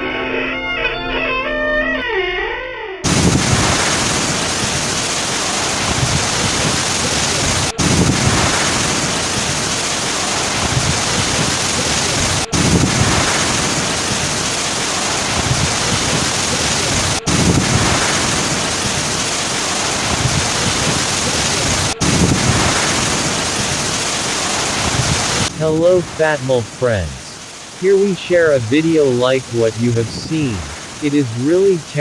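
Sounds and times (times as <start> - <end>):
heavy rain: 3.0 - 32.0.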